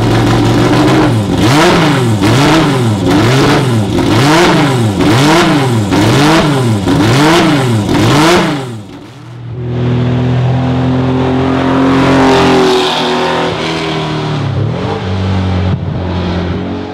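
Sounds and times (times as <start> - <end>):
race engine revving: 0.0 - 16.9.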